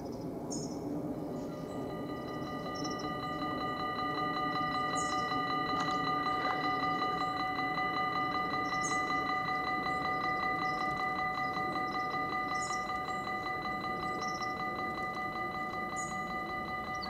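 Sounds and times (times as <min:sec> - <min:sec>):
bird chirps: 0:00.0 - 0:17.0
level-crossing warning bell: 0:01.0 - 0:17.0.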